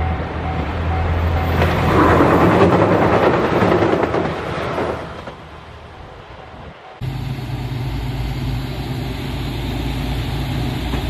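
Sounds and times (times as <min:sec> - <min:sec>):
train passing on bridge: 0:00.0 - 0:11.0.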